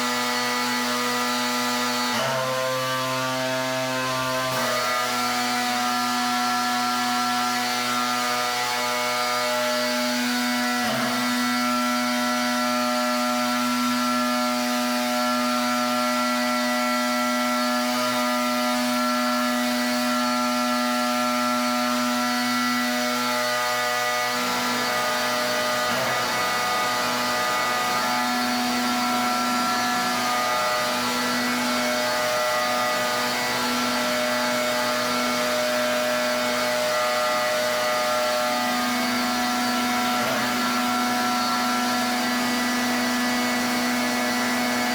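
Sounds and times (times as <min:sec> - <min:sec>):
pressure washer motor humming: 0:00.0 - 0:44.9.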